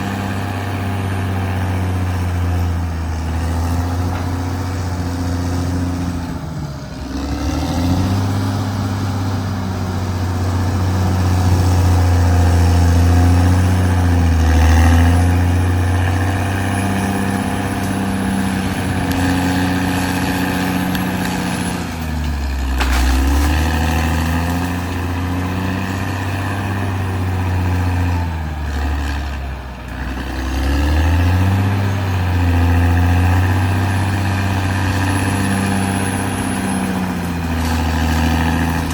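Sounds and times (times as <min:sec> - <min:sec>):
bulldozer diesel engine lugging: 0:00.0 - 0:38.9.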